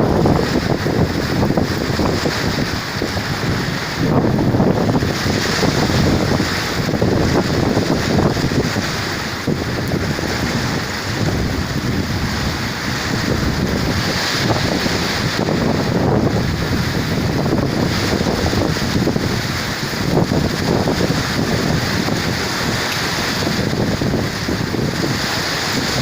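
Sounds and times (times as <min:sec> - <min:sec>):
strong storm wind blasting: 0:00.0 - 0:26.0.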